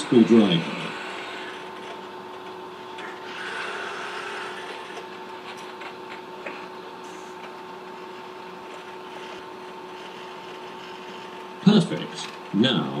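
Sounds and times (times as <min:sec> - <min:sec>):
hissing whir: 0:00.0 - 0:12.5
steady machine hum: 0:00.0 - 0:13.0.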